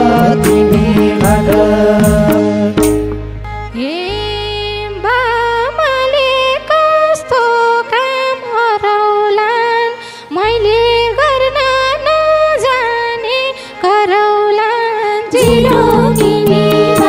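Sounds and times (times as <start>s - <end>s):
ornamented folk melody: 0.0s - 17.0s.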